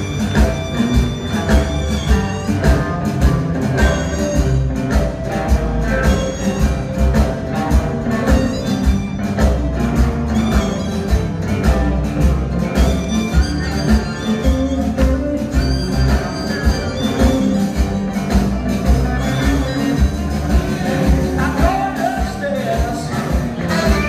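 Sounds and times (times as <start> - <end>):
live blues band playing: 0.0 - 24.0.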